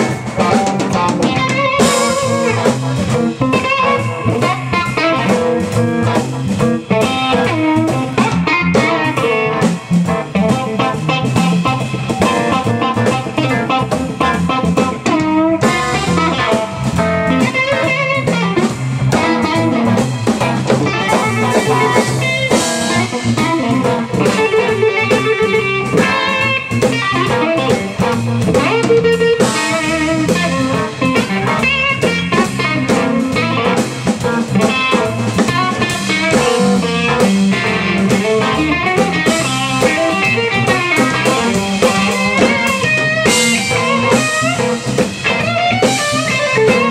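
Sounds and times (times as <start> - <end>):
live electric blues band: 0.0 - 46.9.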